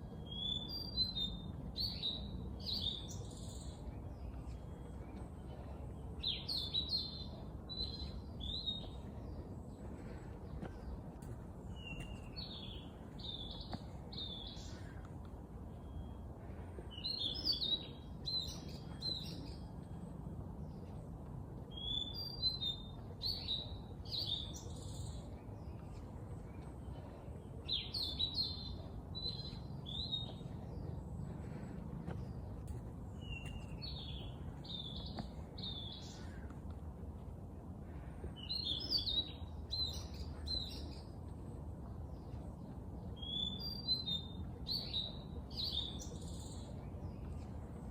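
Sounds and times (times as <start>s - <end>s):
songbird singing: 0.0s - 47.9s
steady low rumble: 0.0s - 47.9s.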